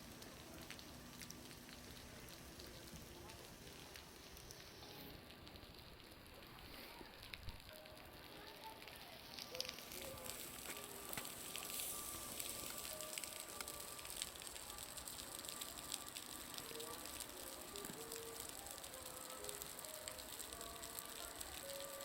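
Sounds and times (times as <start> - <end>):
meltwater dripping from roof: 0.0 - 22.0.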